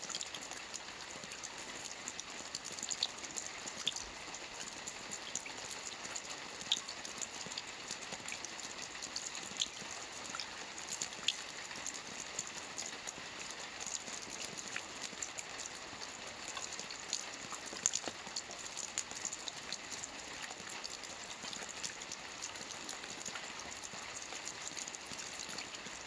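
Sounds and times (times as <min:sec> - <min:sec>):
rain pattering on a roof: 0:00.0 - 0:26.0.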